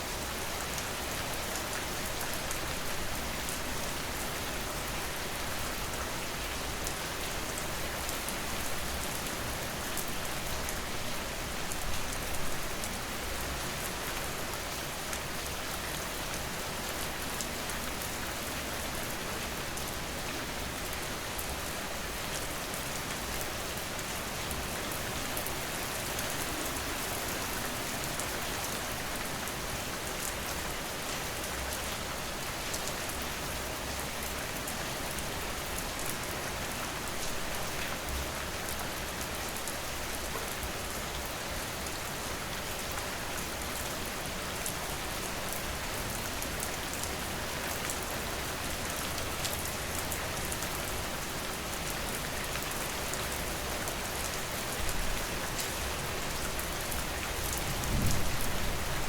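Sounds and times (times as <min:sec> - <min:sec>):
rain pattering: 0:00.1 - 0:59.0.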